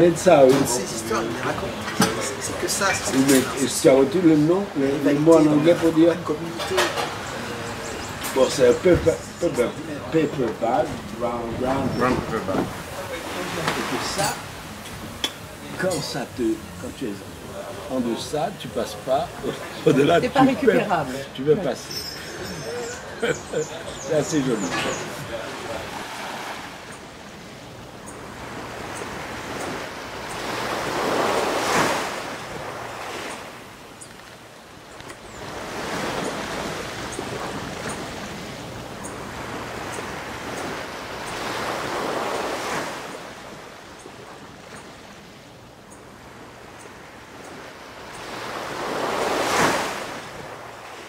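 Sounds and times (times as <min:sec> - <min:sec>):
small waves breaking on beach: 0:00.0 - 0:22.4, 0:23.9 - 0:51.0.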